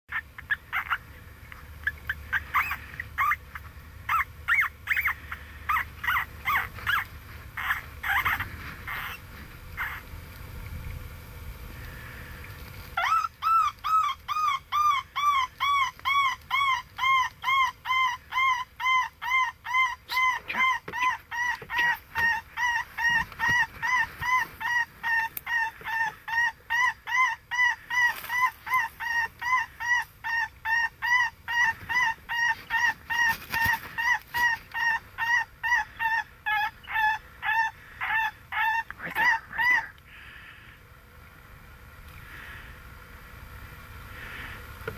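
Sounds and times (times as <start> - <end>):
high-pitched distress cry call: 0.1 - 1.0, 1.8 - 10.1, 12.9 - 40.4.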